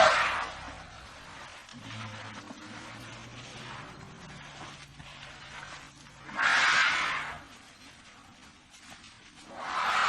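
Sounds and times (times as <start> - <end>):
elephant rumbling: 0.0 - 10.0.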